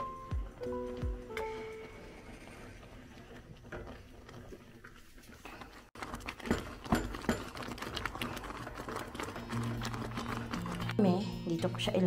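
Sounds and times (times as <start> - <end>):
spatula scraping in a pot: 2.0 - 12.0.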